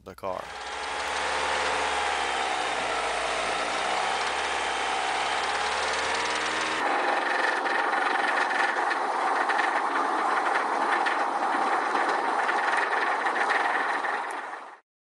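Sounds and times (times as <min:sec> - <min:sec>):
car engine knocking: 0:00.4 - 0:14.8.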